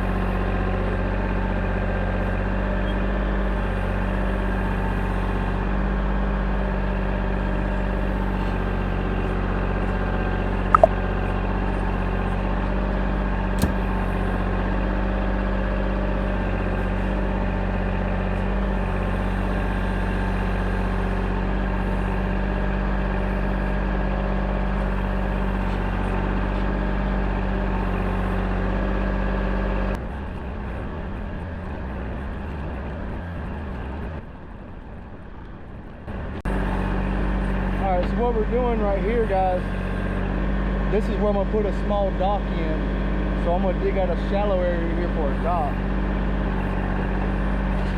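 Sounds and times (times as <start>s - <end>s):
digging machine engine running: 0.0s - 47.9s.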